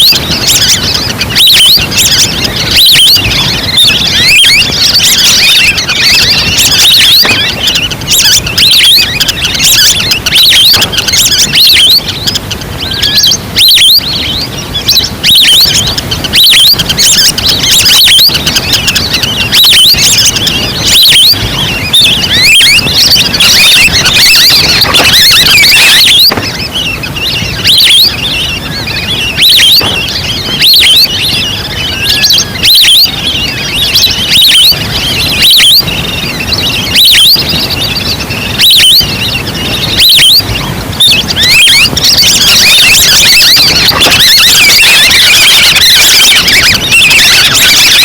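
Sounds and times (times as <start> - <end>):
ducks whistling chirps: 0.0 - 48.0.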